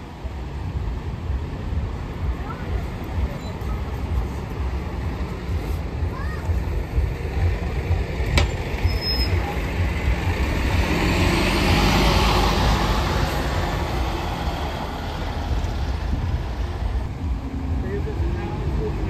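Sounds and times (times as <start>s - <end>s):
bus engine rumbling past: 0.0s - 19.0s.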